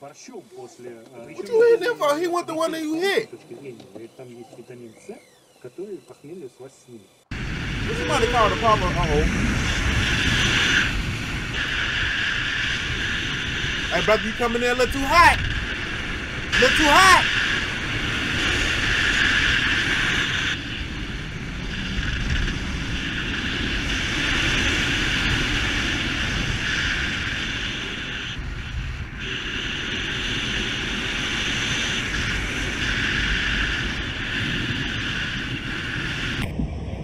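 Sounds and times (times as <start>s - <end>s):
wind buffeting microphone: 7.3s - 37.0s.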